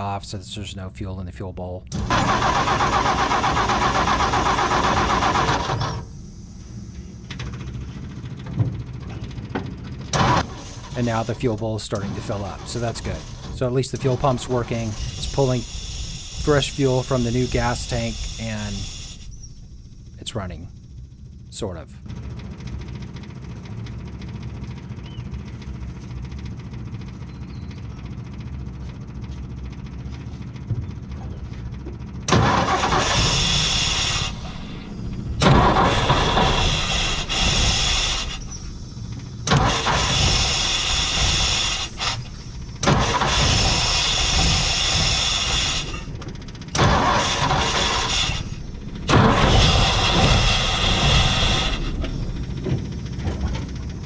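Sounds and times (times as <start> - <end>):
engine cranking: 1.9 - 6.3, 7.2 - 21.2, 22.0 - 54.0
engine running roughly: 1.9 - 54.0.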